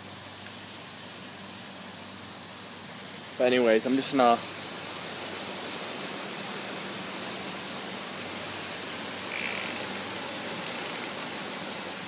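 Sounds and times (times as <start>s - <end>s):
lawn sprinkler spraying water: 0.0s - 12.0s.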